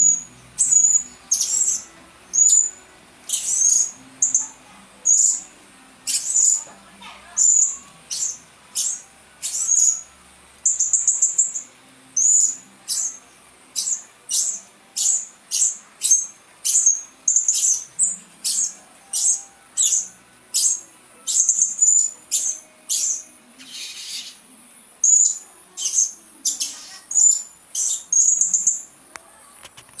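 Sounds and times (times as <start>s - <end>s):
parrot chirping: 0.0s - 28.9s.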